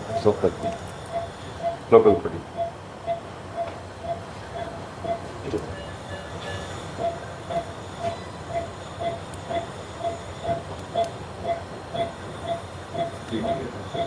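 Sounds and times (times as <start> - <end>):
patient monitor beeping: 0.0 - 14.0.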